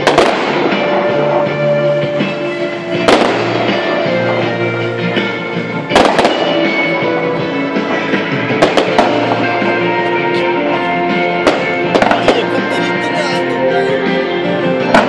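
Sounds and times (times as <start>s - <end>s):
fireworks banging: 0.0s - 13.6s, 14.8s - 15.0s
music playing: 0.0s - 15.0s.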